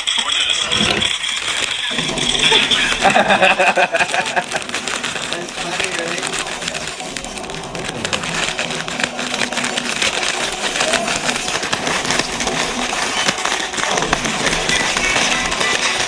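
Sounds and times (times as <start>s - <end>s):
chips crunching: 0.0s - 16.0s
plastic snack bag crinkling: 0.0s - 16.0s.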